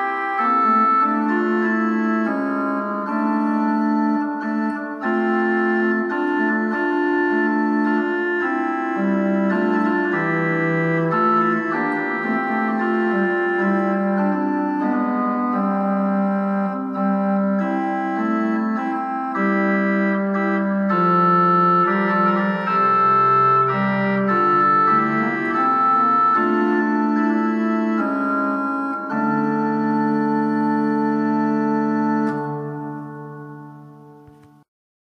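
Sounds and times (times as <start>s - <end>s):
pipe organ playing: 0.0s - 34.6s.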